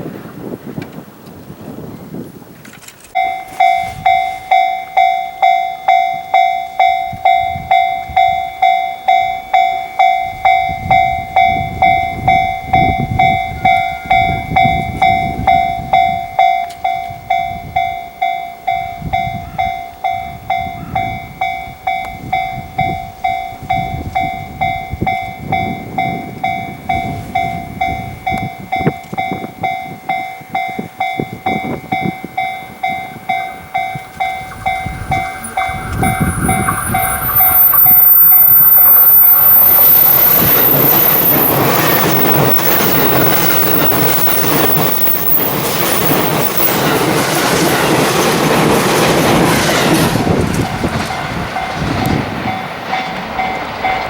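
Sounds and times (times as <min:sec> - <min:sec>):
wind buffeting microphone: 0:00.0 - 0:04.5, 0:10.2 - 0:18.0, 0:18.8 - 0:54.0
train passing rumble: 0:02.2 - 0:54.0
level crossing bell ringing: 0:03.2 - 0:47.1.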